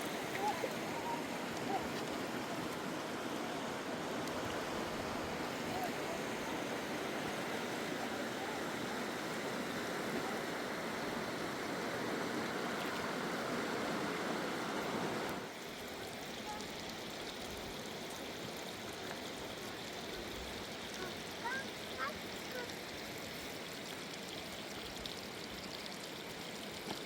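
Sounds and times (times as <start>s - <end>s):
fast-flowing river water: 0.0s - 27.0s.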